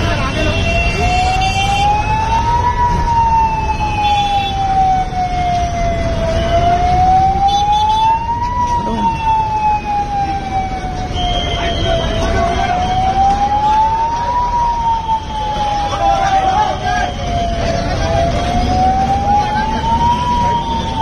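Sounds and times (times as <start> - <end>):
crowd noise: 0.0 - 4.1, 8.2 - 21.0
fire engine siren wailing: 0.0 - 21.0.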